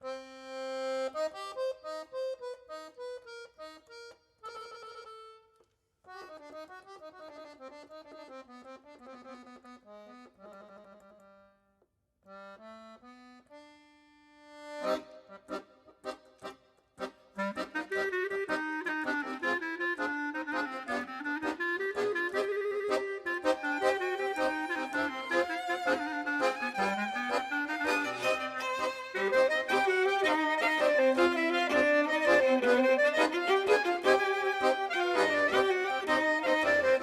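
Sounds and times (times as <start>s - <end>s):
accordion melody: 0.0s - 11.7s, 12.3s - 37.0s.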